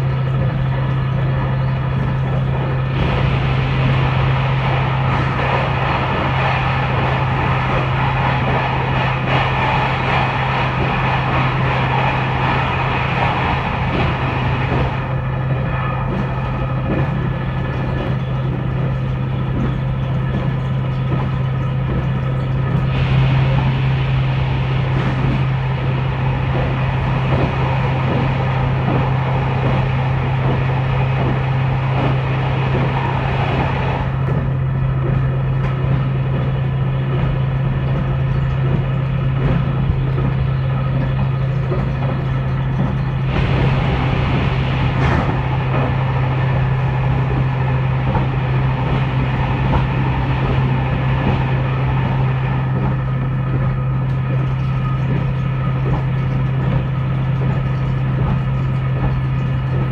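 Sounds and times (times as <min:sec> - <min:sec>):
train engine drone: 0:00.0 - 0:59.9
wheels rumbling on rails: 0:00.0 - 0:59.9.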